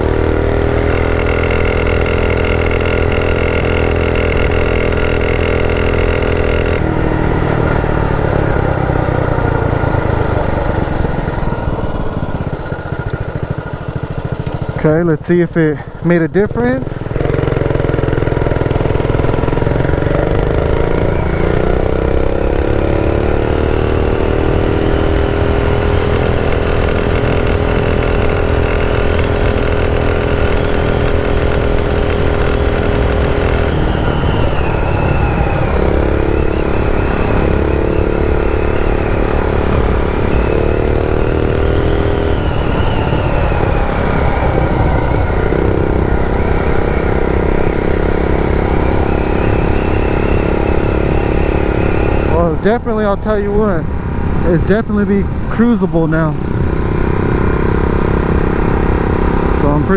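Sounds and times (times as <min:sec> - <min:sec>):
minibike engine at full throttle: 0:00.0 - 0:59.9.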